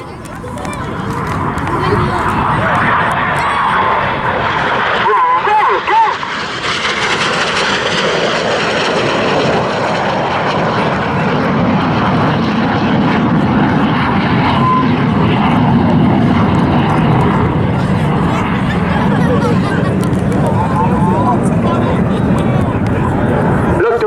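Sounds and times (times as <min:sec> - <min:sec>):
jet roar: 0:00.0 - 0:24.0.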